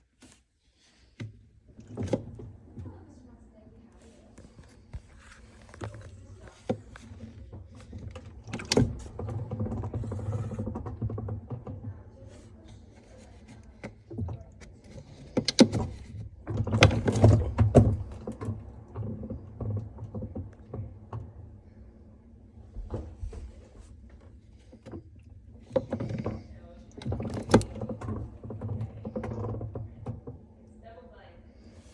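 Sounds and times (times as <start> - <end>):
rotating unit rumbling: 1.7 - 31.9.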